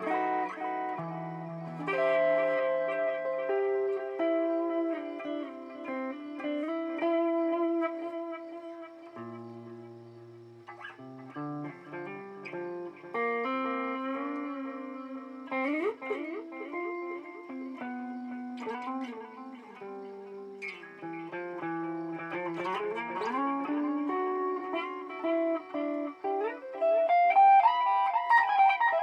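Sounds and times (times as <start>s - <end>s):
electric guitar with delay echoes: 0.0s - 29.0s.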